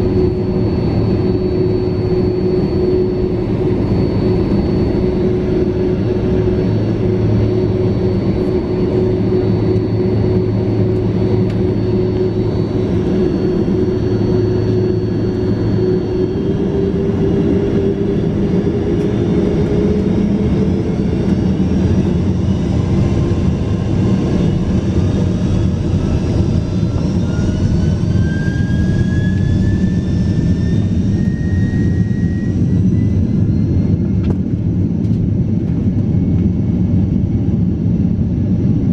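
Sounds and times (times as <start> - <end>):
engine whine rising in pitch: 0.0 - 38.7
jet engines from inside cabin: 0.0 - 38.9.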